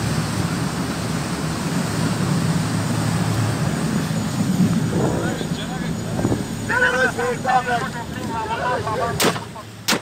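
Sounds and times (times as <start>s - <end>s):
wind and spray rushing: 0.0s - 8.5s
boat engine humming: 0.0s - 10.0s.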